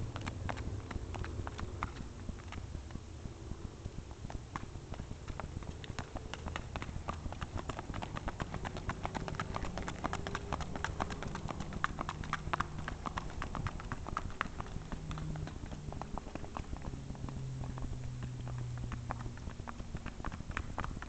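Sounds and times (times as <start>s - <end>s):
hooves clip-clopping on asphalt: 0.0s - 21.0s.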